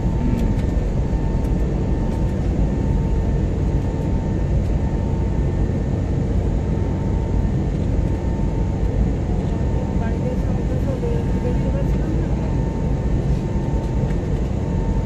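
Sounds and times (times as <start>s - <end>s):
plane cabin engine noise: 0.0s - 15.0s.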